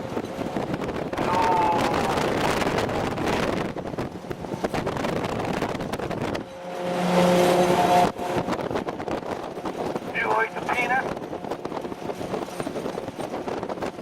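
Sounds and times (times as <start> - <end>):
vehicle engine road and wind noise: 0.0 - 14.0.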